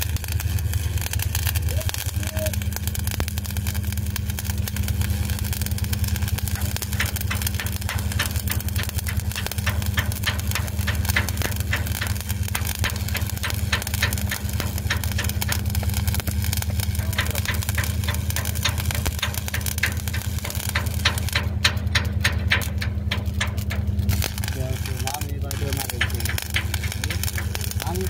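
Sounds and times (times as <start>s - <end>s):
loud low hum: 0.0s - 28.0s
welding arc crackling: 0.0s - 28.0s.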